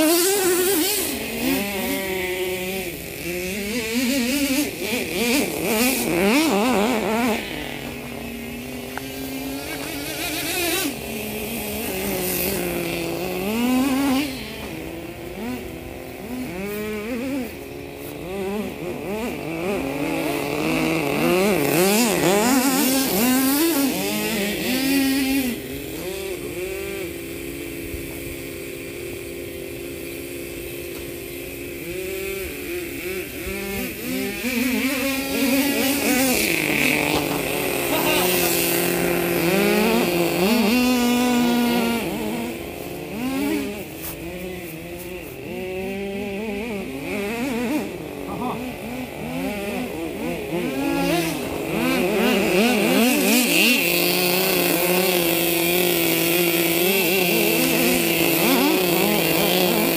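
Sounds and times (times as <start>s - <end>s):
rc car engine revving: 0.0s - 59.9s.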